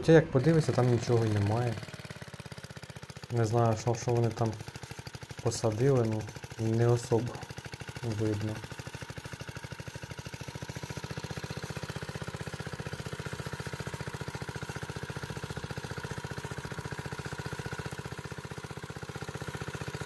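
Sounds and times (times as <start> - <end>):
small tractor engine running: 0.0 - 20.0.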